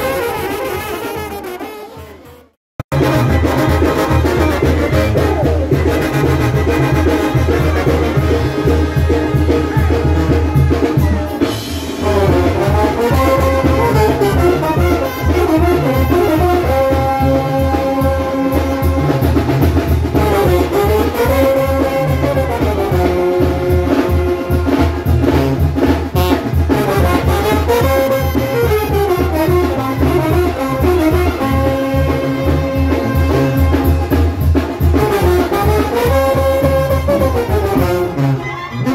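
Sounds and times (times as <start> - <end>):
trombones playing: 0.0 - 38.9.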